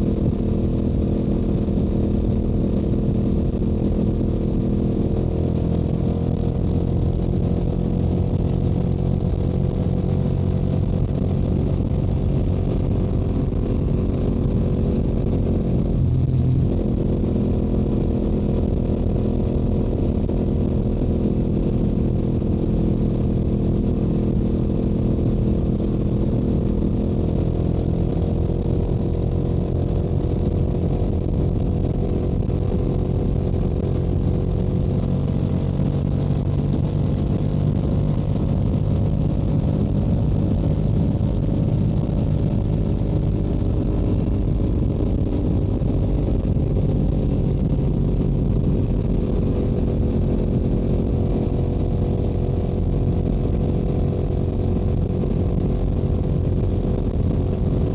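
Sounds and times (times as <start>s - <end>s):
motorcycle engine cruising: 0.0s - 57.9s.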